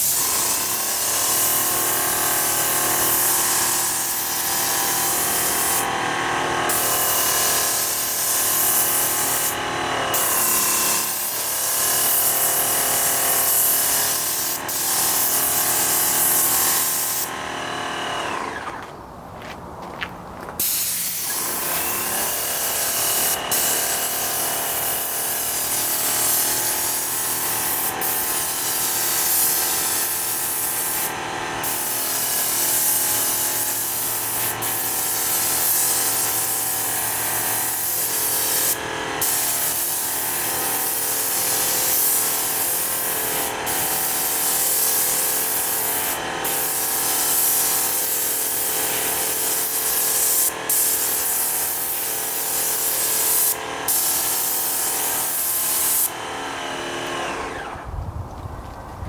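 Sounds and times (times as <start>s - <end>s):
hiss of spray: 0.0s - 5.9s, 6.7s - 9.6s, 10.2s - 17.3s, 20.6s - 56.1s
paint sprayer motor hum: 0.0s - 19.0s, 20.6s - 58.9s.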